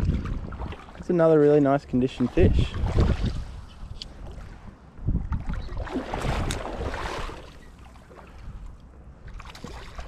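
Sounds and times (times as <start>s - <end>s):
wind rumble on microphone: 0.0s - 1.1s, 1.8s - 10.0s.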